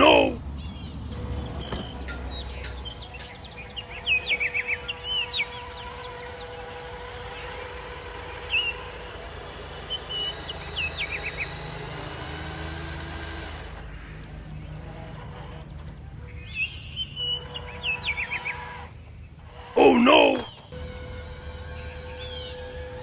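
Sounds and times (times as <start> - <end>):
birds chirping: 0.0 - 20.8
low background hum: 0.0 - 23.0.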